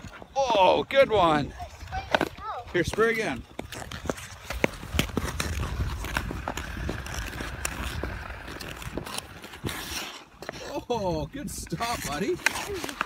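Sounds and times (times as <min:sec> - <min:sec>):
skate blades scraping ice: 0:00.0 - 0:13.0.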